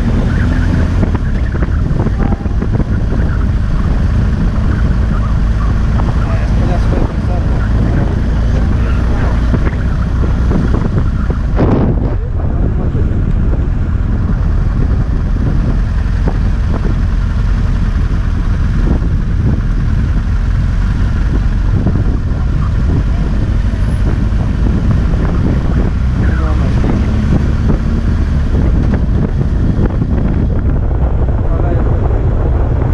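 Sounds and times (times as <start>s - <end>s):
motorcycle engine drone: 0.0s - 32.9s
wind rushing over microphone: 0.0s - 32.9s.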